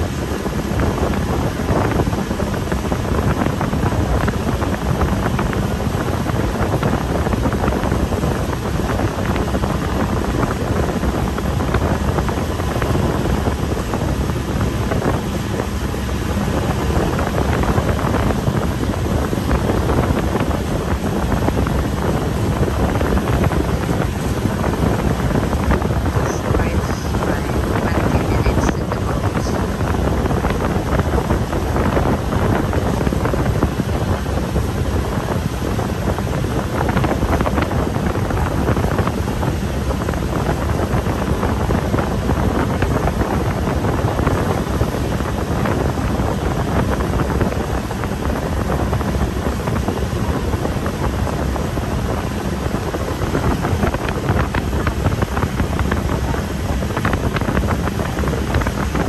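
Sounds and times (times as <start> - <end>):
boat engine running: 0.0 - 59.0
wind noise on microphone: 0.0 - 59.0.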